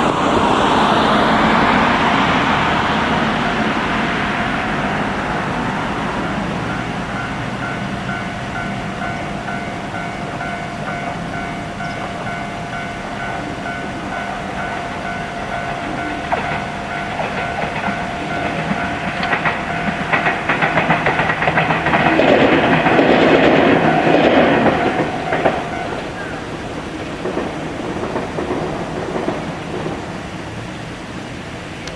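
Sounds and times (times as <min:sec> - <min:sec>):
level crossing warning bell: 0:00.0 - 0:31.9
train wheels clickety-clack: 0:00.0 - 0:31.9.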